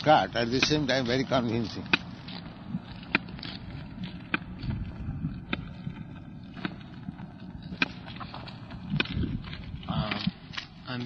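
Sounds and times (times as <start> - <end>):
footsteps outdoors: 0.0 - 11.0
wind rumble on microphone: 0.3 - 11.0.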